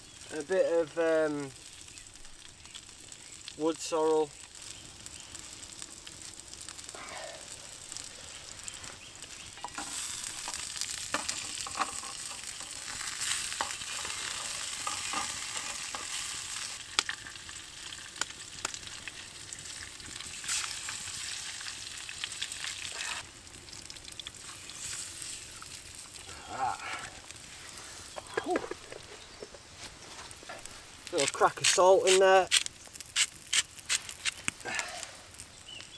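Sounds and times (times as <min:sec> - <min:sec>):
food sizzling in oil: 0:00.0 - 0:35.9.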